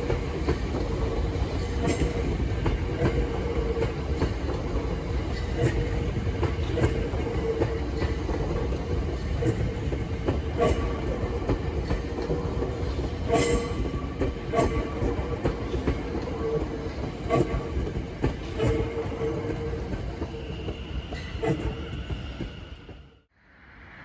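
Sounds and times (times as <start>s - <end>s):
train wheel clicks and rattles: 0.0s - 20.4s
train rumble: 0.0s - 24.0s.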